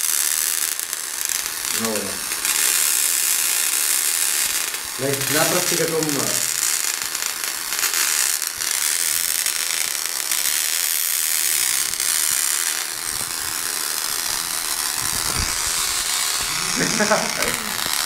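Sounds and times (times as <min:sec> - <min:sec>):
tesla coil sparks buzzing: 0:00.0 - 0:18.0.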